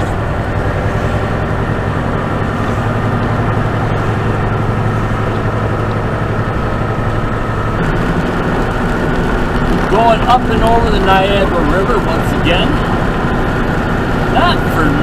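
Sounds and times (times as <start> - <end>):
diesel engine drone: 0.0 - 15.0
road noise: 0.0 - 15.0.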